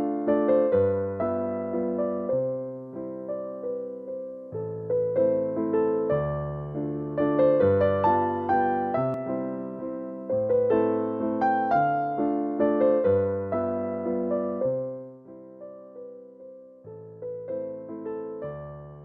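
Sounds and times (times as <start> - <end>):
gentle piano piece: 0.0 - 19.0.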